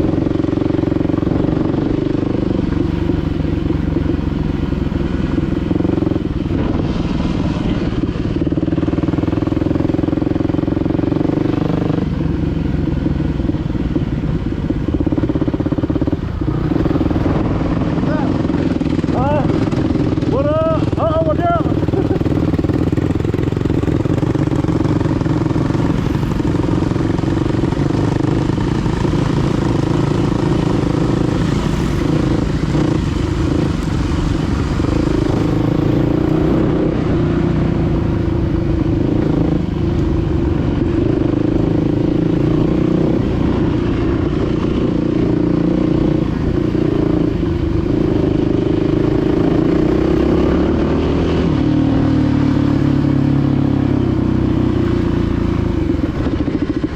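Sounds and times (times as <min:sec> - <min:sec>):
dirt bike engine running: 0:00.0 - 0:56.9.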